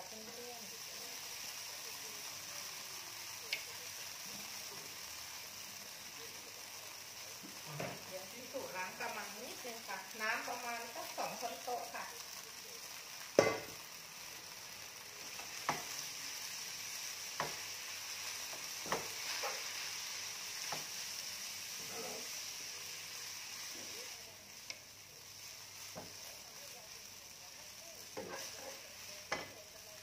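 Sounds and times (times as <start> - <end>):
noodles sizzling in a pan: 0.0 - 30.0.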